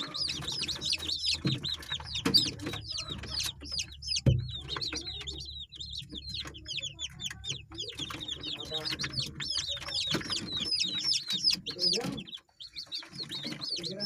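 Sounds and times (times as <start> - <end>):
chickens chirping: 0.0 - 14.0.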